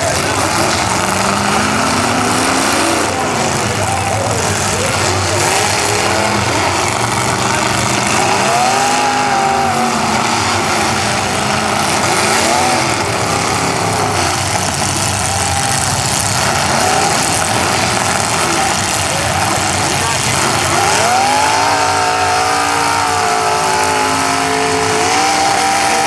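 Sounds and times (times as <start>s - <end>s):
car engines revving: 0.0s - 26.0s
loud steady din: 0.0s - 26.0s.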